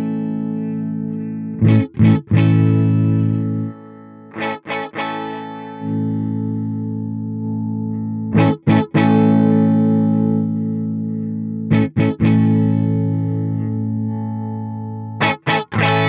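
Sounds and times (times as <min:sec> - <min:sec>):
electric guitar chords and strums: 0:00.0 - 0:16.0.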